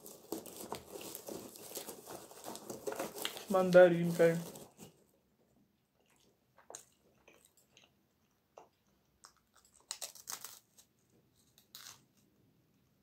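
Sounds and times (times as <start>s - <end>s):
person crunching biscuit: 0.0s - 4.9s, 6.0s - 12.3s.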